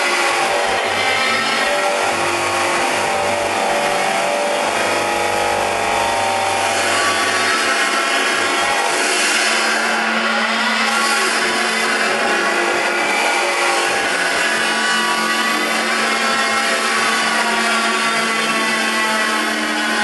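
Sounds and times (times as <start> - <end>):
grinding metal casting: 0.0 - 20.0
grinding wheel motor whine: 0.0 - 20.0.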